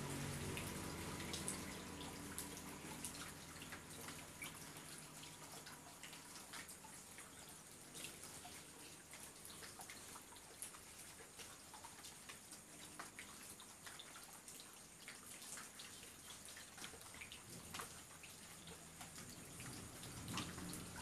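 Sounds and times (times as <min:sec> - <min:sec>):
rain drops ticking: 0:00.0 - 0:21.0.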